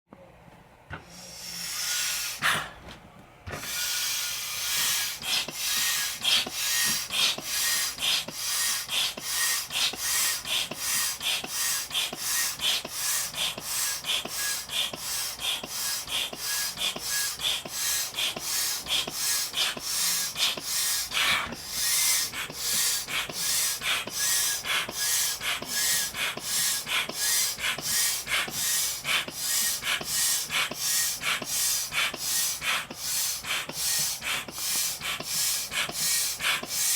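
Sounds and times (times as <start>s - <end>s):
air pump hissing strokes: 1.0s - 2.8s, 3.5s - 36.9s.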